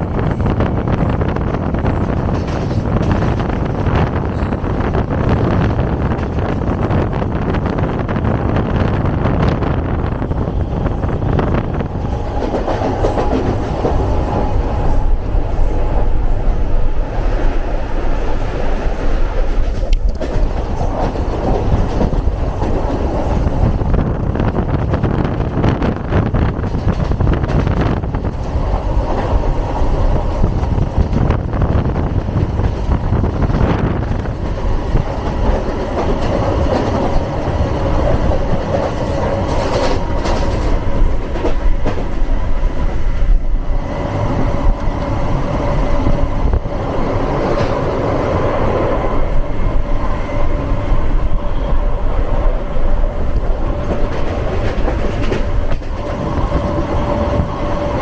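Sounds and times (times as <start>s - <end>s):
clickety-clack of rail joints: 0.0s - 58.0s
train wheels rumbling on rail: 0.0s - 58.0s
steady whining tone: 2.7s - 25.5s, 26.9s - 58.0s.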